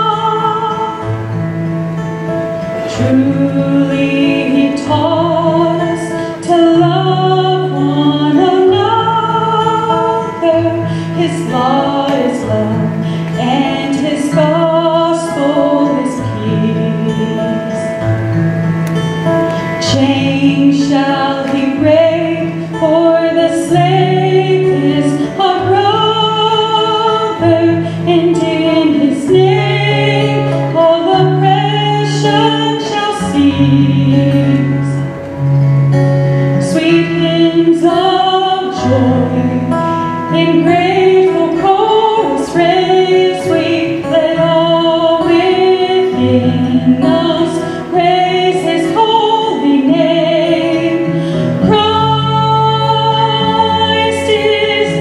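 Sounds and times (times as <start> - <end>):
woman singing into microphone: 0.0 - 2.0, 2.6 - 18.2, 19.0 - 35.5, 36.3 - 55.0
acoustic guitar: 0.0 - 55.0.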